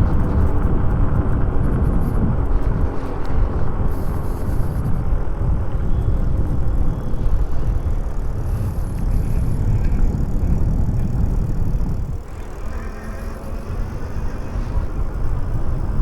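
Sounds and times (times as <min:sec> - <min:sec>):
wind buffeting on microphone: 0:00.0 - 0:16.0.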